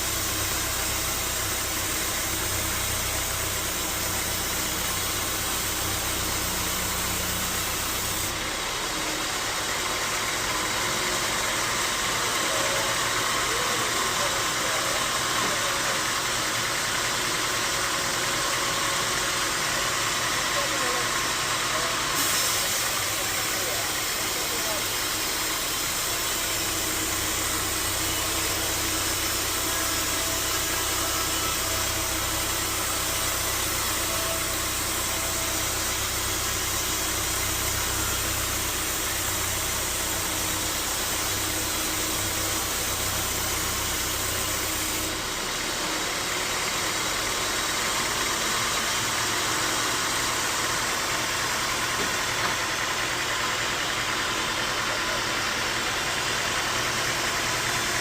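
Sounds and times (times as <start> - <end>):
band sawmill machinery drone: 0.0 - 58.0.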